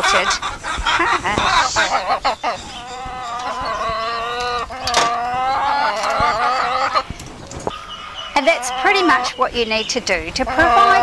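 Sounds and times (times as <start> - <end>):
hen calling: 0.0 - 11.0.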